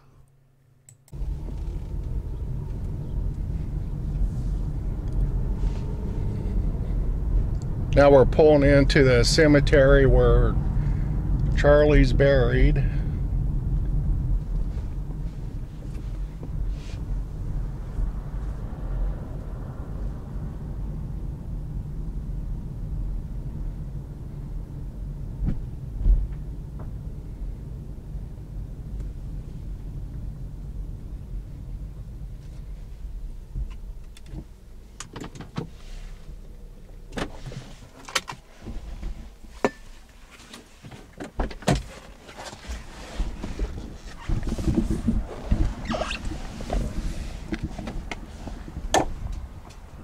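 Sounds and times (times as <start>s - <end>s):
car cabin road noise: 0.0s - 50.0s.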